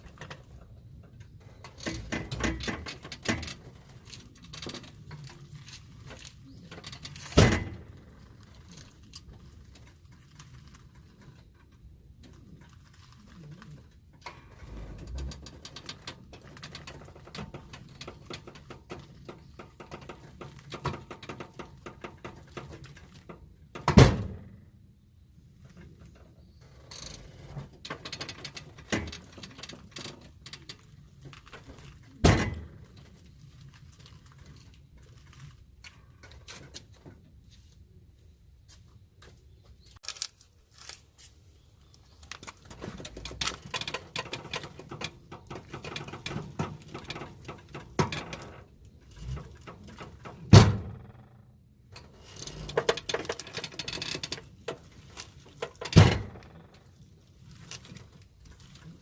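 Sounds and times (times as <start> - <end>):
tools knocking and rattling: 0.0 - 12.6, 14.2 - 24.6, 27.0 - 37.2, 42.2 - 59.0.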